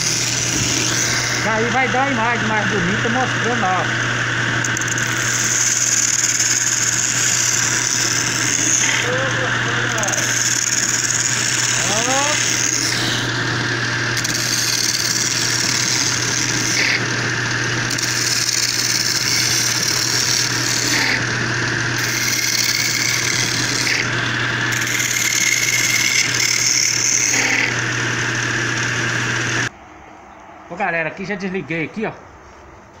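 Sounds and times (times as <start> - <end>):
chisel scraping spinning wood: 0.0 - 29.7
wood lathe humming: 0.0 - 29.7.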